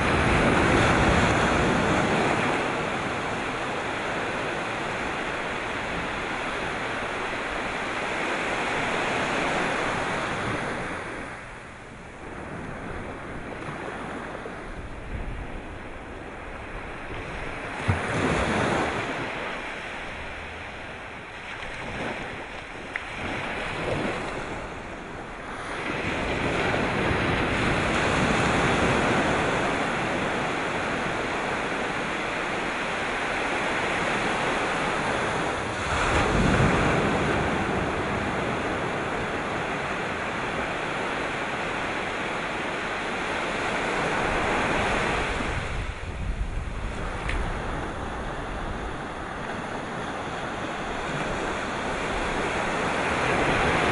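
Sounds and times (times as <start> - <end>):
sea waves breaking on shore: 0.0 - 53.9
wind buffeting microphone: 0.0 - 53.9.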